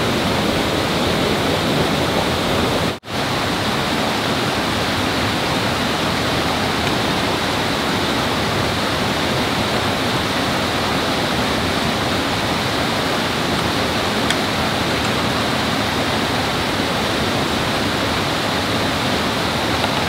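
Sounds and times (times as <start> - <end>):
flowing water rushing: 0.0 - 20.0.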